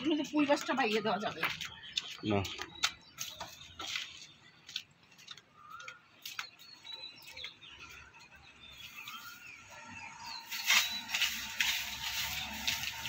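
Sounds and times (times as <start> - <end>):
bird chirps: 0.0 - 13.0
outdoor ambience: 0.0 - 13.0.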